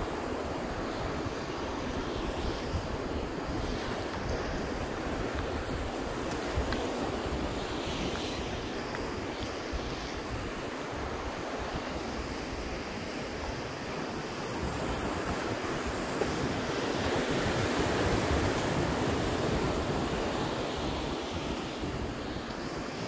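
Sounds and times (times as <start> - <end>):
ocean surf breaking: 0.0 - 23.0
wind rumbling on microphone: 0.0 - 23.0.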